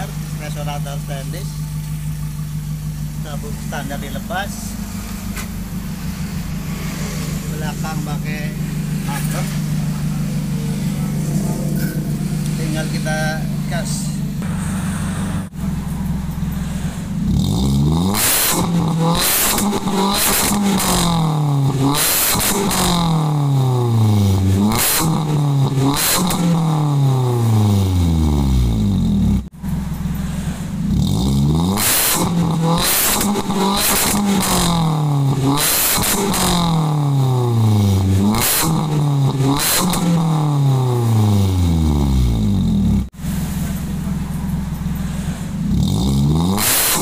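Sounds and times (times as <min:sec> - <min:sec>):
car engine revving at exhaust: 0:00.0 - 0:47.0.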